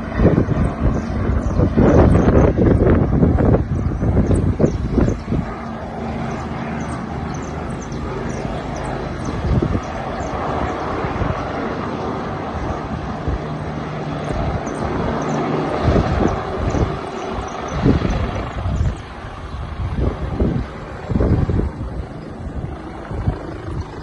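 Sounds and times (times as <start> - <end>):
helicopter engine and rotor hum: 0.0 - 24.0.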